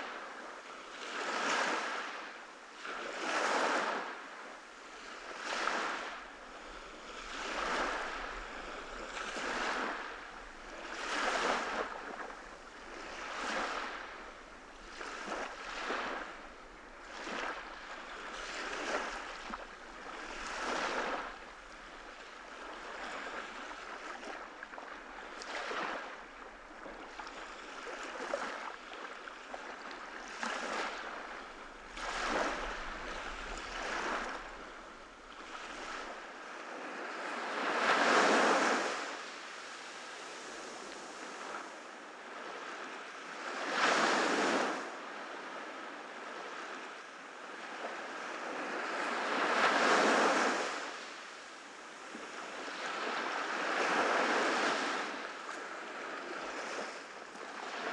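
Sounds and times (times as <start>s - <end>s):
ocean waves breaking on beach: 0.0s - 57.9s.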